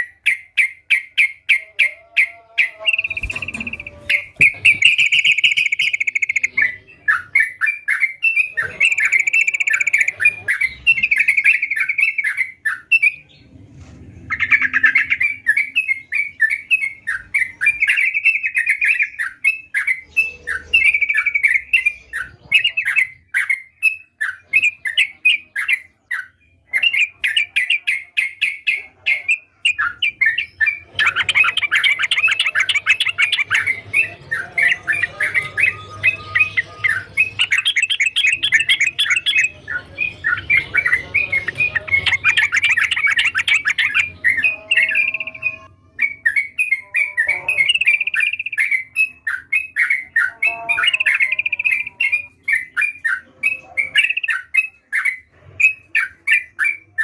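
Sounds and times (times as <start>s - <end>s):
bird singing chattering phrases: 0.0s - 13.5s, 14.2s - 57.0s.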